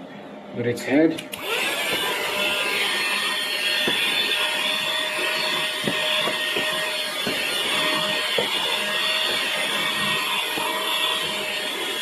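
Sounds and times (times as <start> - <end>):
handheld vacuum cleaner running: 1.3 - 12.0.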